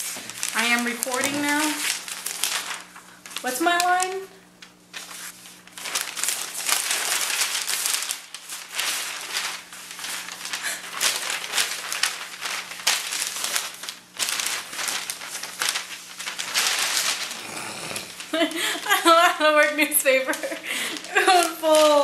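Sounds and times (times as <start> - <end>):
newspaper rustling and crinkling: 0.0 - 22.0.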